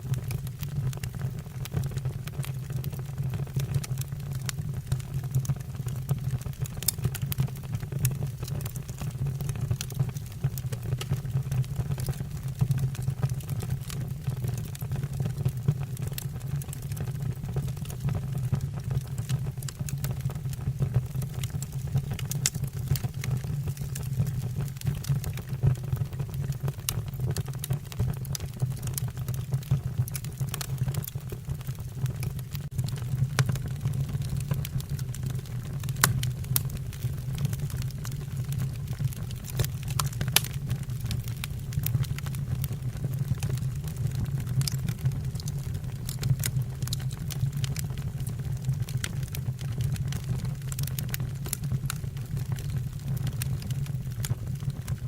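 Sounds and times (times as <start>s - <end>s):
logs crackling and popping: 0.0s - 55.0s
low rumble of flame: 0.0s - 55.0s.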